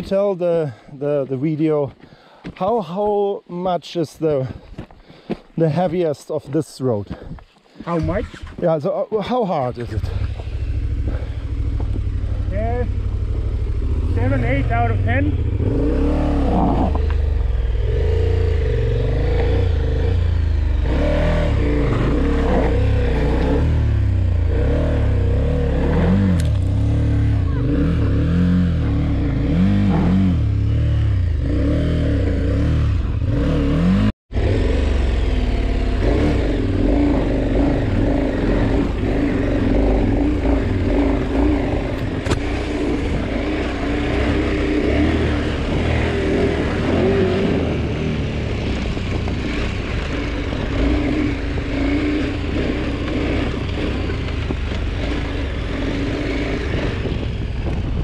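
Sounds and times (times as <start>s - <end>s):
motorcycle engine revving: 9.7s - 58.0s.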